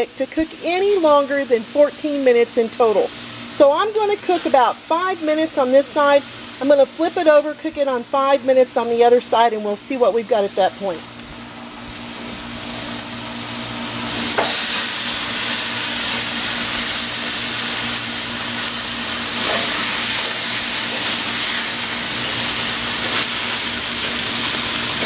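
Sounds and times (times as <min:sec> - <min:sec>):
meat sizzling on a grill: 0:00.0 - 0:25.0.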